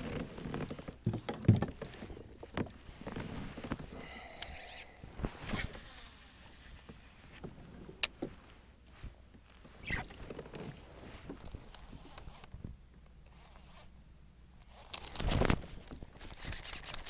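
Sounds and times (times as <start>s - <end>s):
crackly rustle: 0.0s - 17.0s.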